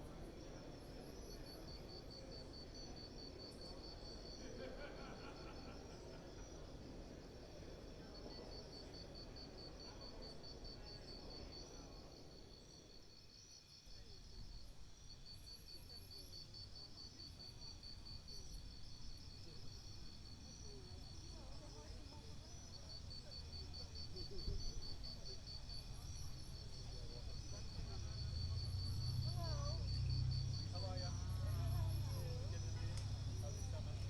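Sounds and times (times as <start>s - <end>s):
insects trilling: 0.3s - 34.0s.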